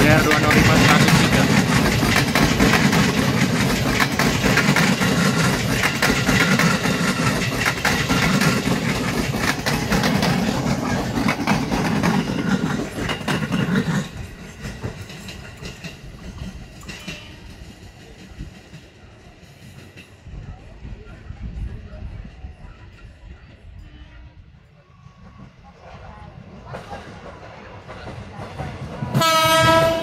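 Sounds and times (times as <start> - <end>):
train wheels clacking on rails: 0.0 - 20.6, 25.2 - 30.0.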